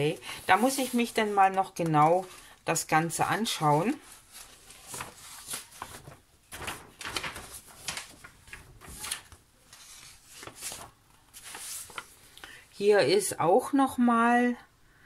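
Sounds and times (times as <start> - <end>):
paper sheets rustling: 0.0 - 12.4.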